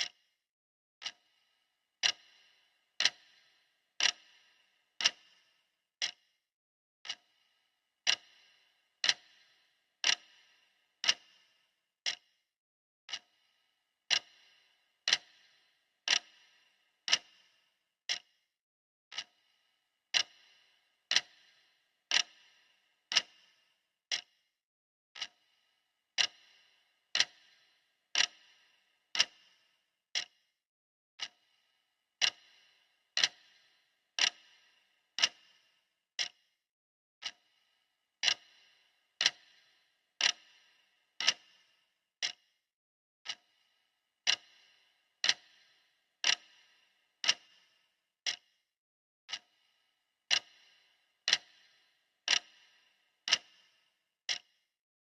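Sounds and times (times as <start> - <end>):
clock ticking: 0.0 - 0.3, 1.0 - 6.4, 7.0 - 12.4, 13.1 - 13.5, 14.1 - 18.4, 19.1 - 24.4, 25.2 - 30.4, 31.2 - 36.5, 37.2 - 42.5, 43.2 - 48.6, 49.3 - 54.6.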